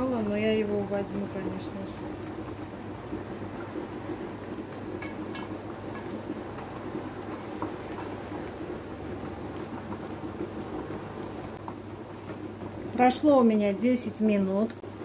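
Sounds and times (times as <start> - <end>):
jam bubbling at a boil: 0.0 - 15.0.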